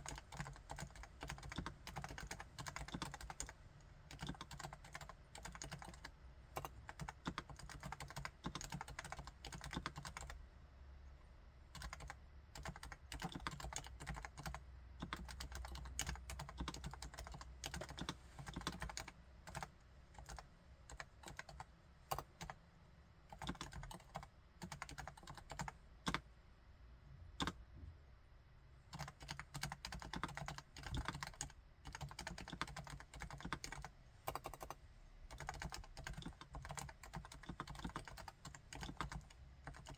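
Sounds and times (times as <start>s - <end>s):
soft keyboard typing: 0.0s - 10.4s, 11.7s - 22.6s, 23.3s - 26.3s, 27.4s - 27.6s, 28.9s - 39.9s.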